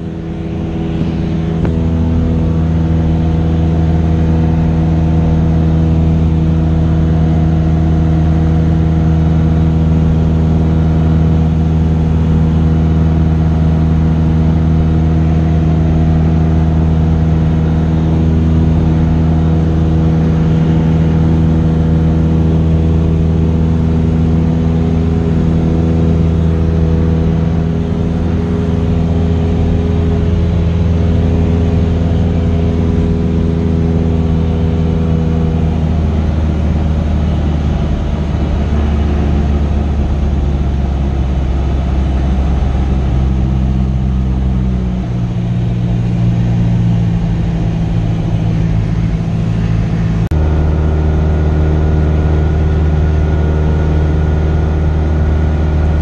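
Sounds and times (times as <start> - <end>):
airplane engine and propeller droning: 0.0 - 56.0.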